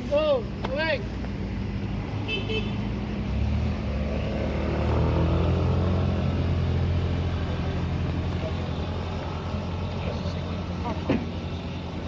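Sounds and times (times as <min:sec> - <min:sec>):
truck engine labouring: 0:01.7 - 0:12.0.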